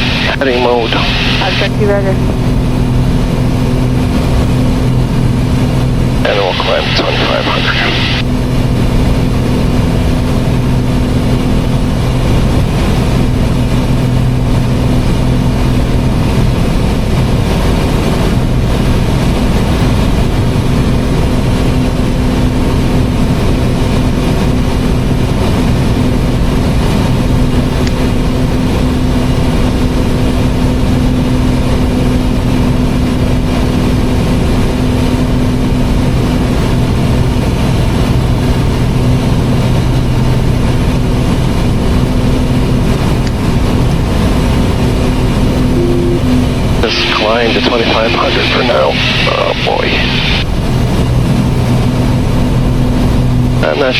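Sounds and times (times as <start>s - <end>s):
airplane engine drone in cockpit: 0.0s - 53.9s.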